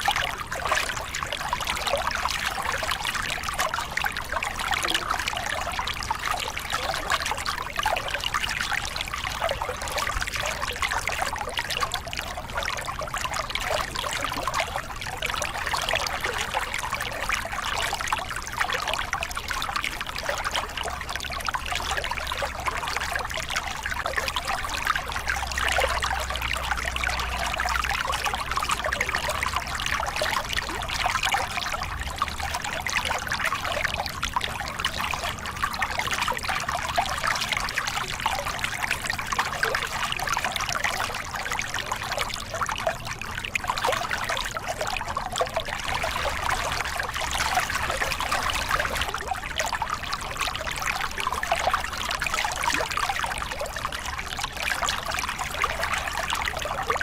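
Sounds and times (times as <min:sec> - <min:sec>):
water splashing over rocks: 0:00.0 - 0:57.0.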